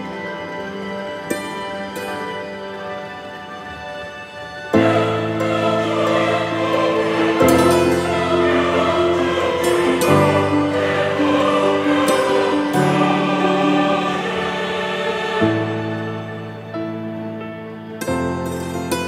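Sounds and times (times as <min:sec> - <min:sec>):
slow choral chords: 0:00.0 - 0:19.0.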